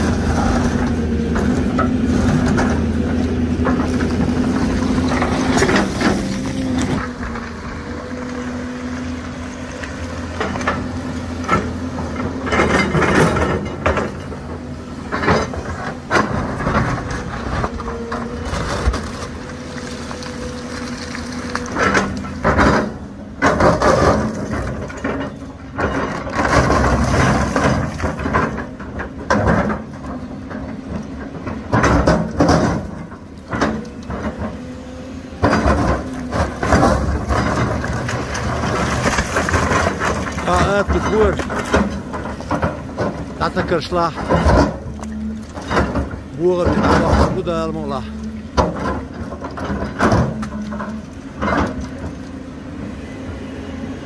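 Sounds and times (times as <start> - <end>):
bucket scraping and clanking on rock: 0.0 - 7.8, 10.3 - 14.5, 15.1 - 34.7, 35.4 - 52.3
diesel engine under load: 0.0 - 54.0.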